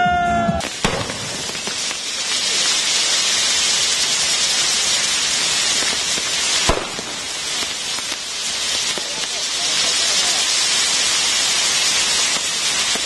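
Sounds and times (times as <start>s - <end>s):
firework wheels hissing sparks: 0.5s - 13.0s.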